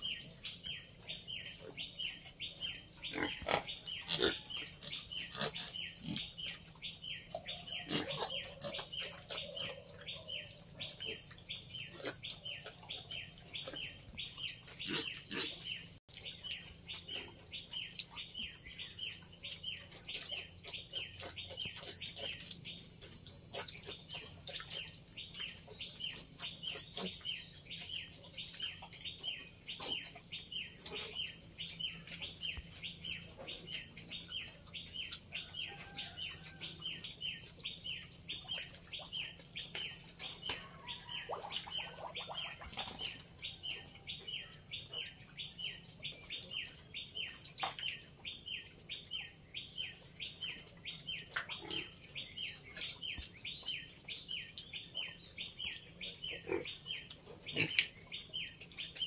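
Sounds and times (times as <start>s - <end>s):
bird chirping rhythmically: 0.0s - 36.0s, 37.0s - 59.0s.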